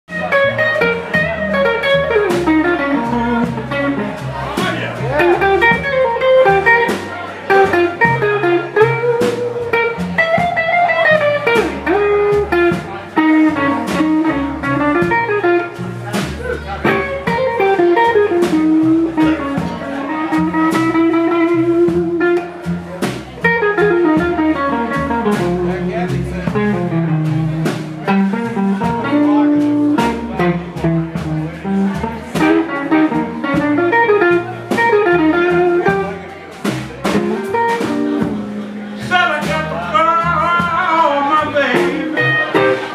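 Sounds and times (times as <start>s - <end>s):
upright bass: 0.0s - 42.9s
blues harmonica lead line: 0.1s - 42.9s
drums: 0.1s - 42.9s
live blues band playing: 0.1s - 42.9s.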